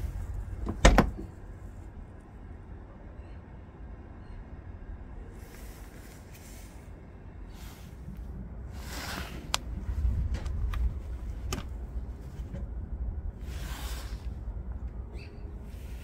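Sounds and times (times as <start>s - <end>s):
wind rumble on microphone: 0.0s - 2.9s, 4.6s - 16.0s.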